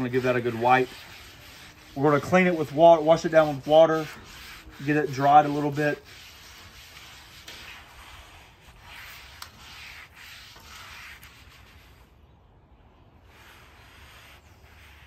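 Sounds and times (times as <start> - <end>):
wet rag wiping griddle: 0.0 - 12.1, 13.2 - 15.0.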